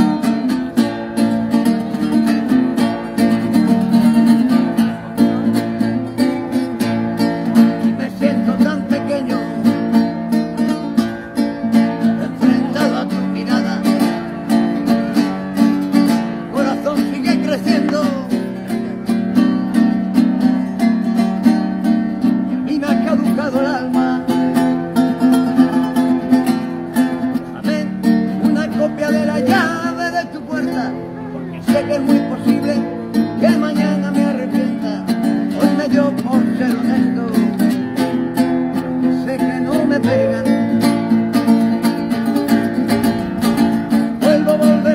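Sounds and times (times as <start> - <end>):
acoustic guitar strumming: 0.0 - 44.9.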